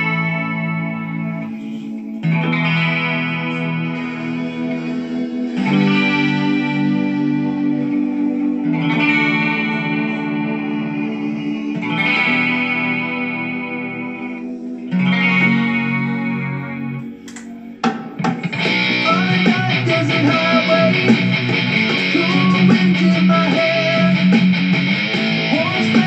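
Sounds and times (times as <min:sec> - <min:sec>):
electric guitar chords: 0:00.0 - 0:26.0
fast guitar picking: 0:00.0 - 0:26.0.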